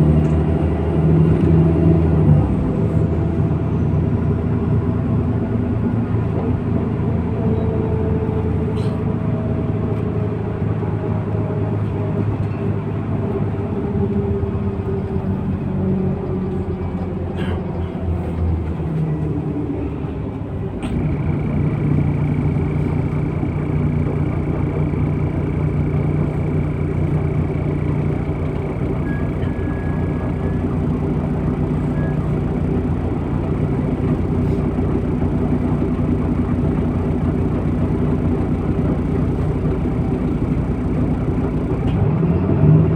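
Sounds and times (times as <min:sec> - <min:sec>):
bus diesel engine: 0:00.0 - 0:42.9.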